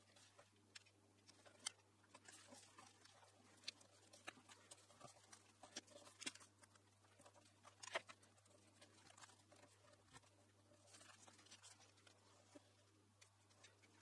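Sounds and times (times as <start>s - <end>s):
paper crackle: 0.0s - 14.0s
paper rustling and crinkling: 0.0s - 14.0s.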